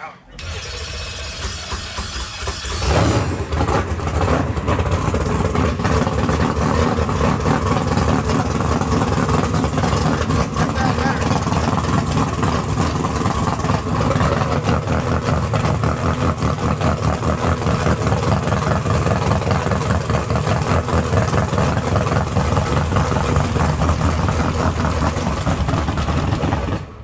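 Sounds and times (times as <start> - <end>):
engine idling loud rumble: 0.3 - 27.0.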